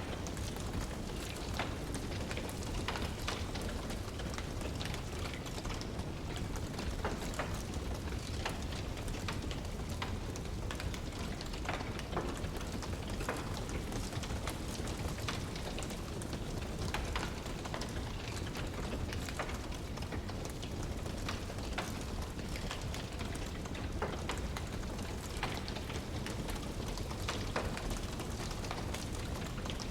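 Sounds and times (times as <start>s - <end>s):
fire rumbling and hissing: 0.0s - 29.9s
logs crackling and popping: 0.0s - 29.9s.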